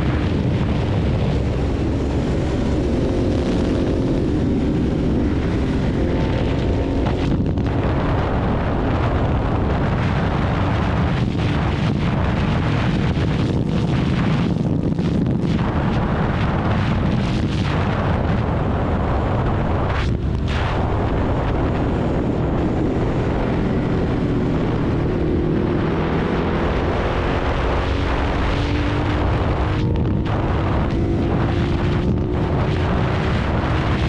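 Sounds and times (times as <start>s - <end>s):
motorcycle exhaust rumbling: 0.0s - 34.0s
wind buffeting on microphone: 0.0s - 34.0s.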